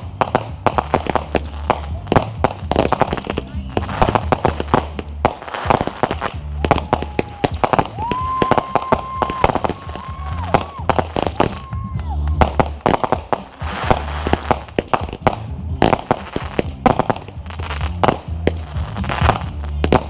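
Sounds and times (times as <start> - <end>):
fireworks bangs and crackles: 0.0 - 20.0
loud music with steady beat: 0.0 - 20.0.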